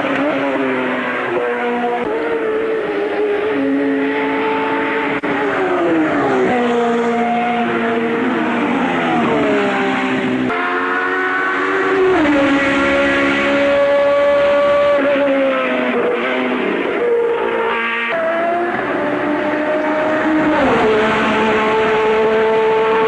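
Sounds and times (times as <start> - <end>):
racing car engine running hard: 0.0 - 23.0.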